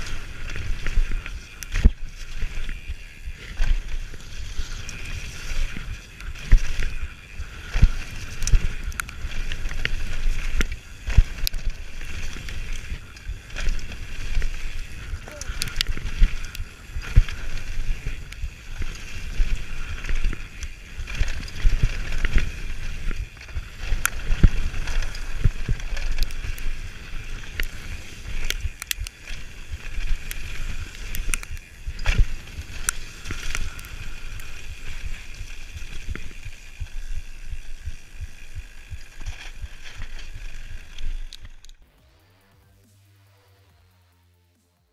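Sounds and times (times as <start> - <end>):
bike knocking and rattling: 0.0 - 41.8
bike tyres on dirt: 0.0 - 41.9.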